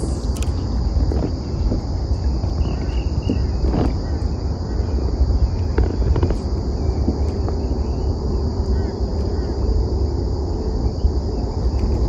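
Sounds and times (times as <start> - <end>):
insect chorus drone: 0.0 - 12.0
wind rumble on microphone: 0.0 - 12.0.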